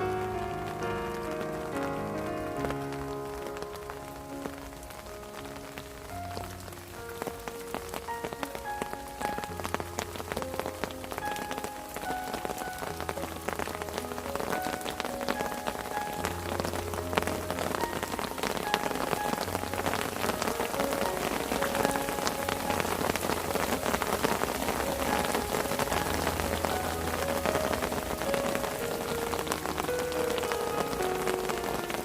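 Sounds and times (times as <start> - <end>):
rain pattering on parasol: 0.0 - 32.0.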